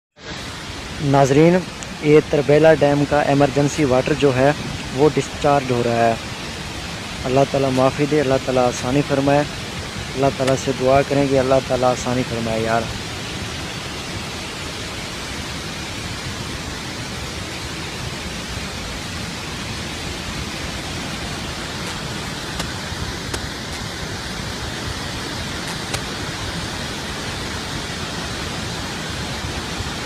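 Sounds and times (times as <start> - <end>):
water rushing from spillway: 0.2 - 30.0.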